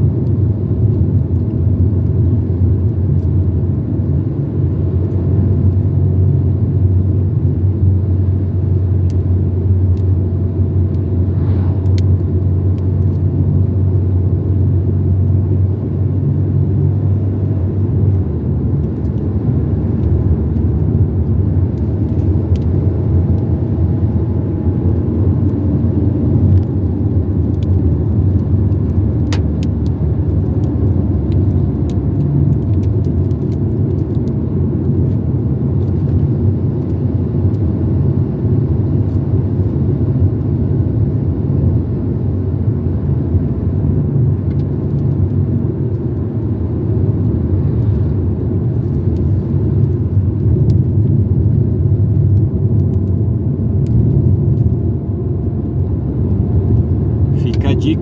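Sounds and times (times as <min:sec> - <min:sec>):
car engine drone: 0:00.0 - 0:58.0
tyre road noise: 0:00.0 - 0:58.0.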